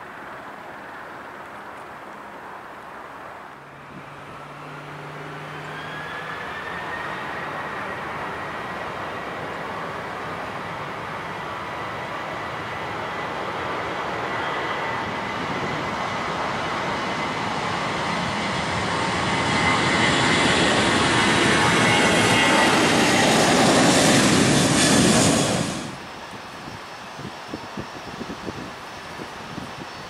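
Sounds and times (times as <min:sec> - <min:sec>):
jet engines roaring: 0:03.5 - 0:30.0.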